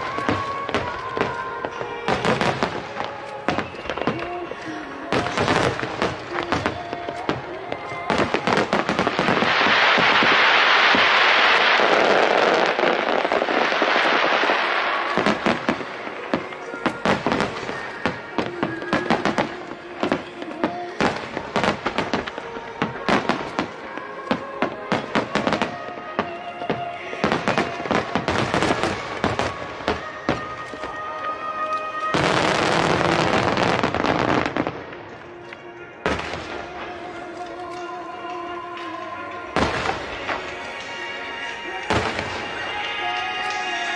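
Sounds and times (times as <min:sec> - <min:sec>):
fireworks hissing crackle: 0:00.0 - 0:43.9.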